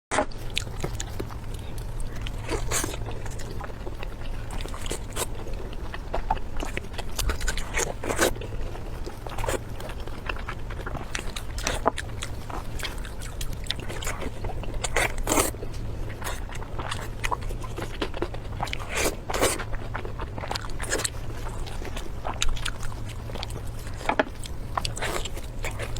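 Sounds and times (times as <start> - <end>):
person chewing crunchy food: 0.1 - 25.9
steady low hum: 0.2 - 25.9.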